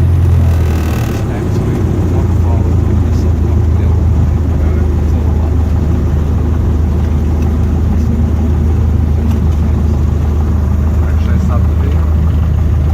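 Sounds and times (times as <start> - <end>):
propeller plane engine droning: 0.0 - 12.9.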